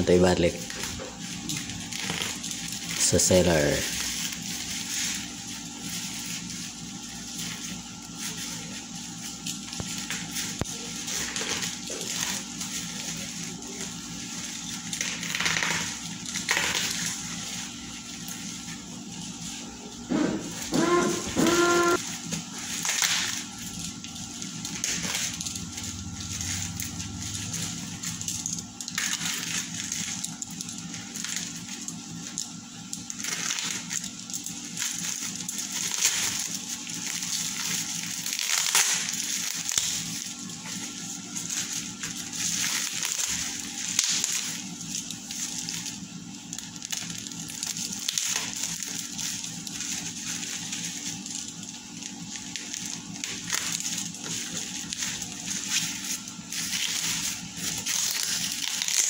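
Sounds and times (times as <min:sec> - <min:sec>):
bubble wrap crinkling and tearing: 0:00.0 - 0:59.0.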